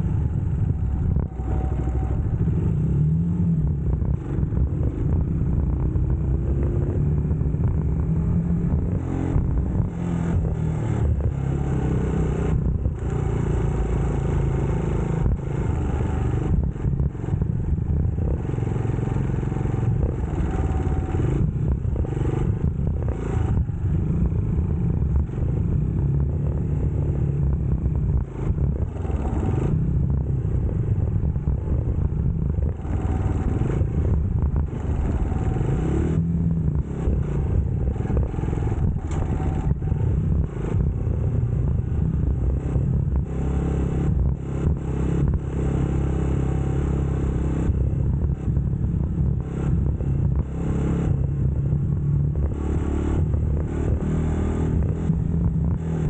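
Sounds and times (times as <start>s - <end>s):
motorcycle engine revving: 0.0s - 56.0s
wind and road noise: 0.0s - 56.0s.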